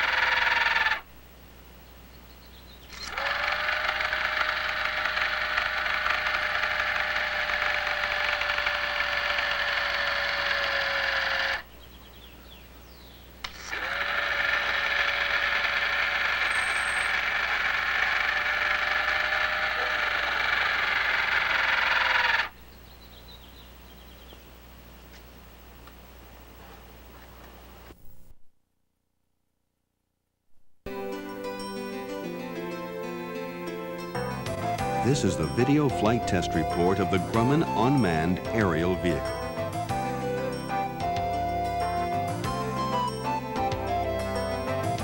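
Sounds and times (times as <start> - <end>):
ducted fan whining: 0.0 - 28.0, 31.6 - 45.0.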